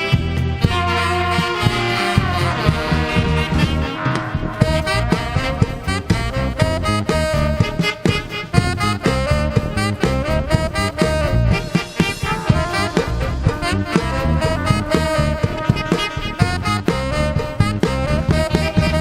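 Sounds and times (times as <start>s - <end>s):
live band playing: 0.0s - 19.0s
steady drum beat: 0.0s - 19.0s
wind instrument melody: 0.0s - 19.0s.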